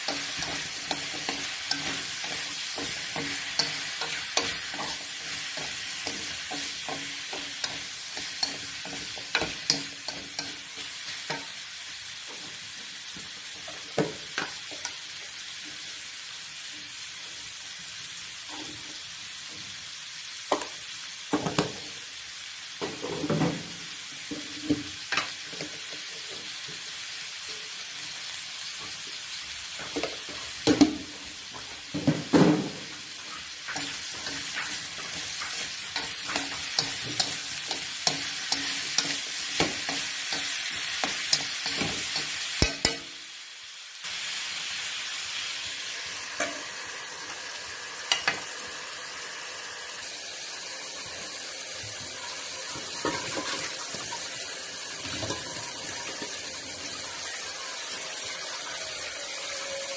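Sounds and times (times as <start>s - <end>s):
squash sizzling in a wok: 0.0s - 59.9s.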